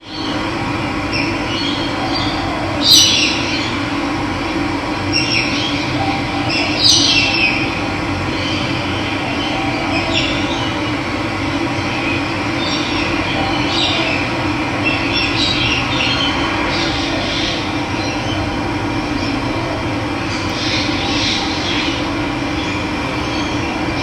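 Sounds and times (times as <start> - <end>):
birds chirping: 0.0 - 4.0, 5.0 - 24.0.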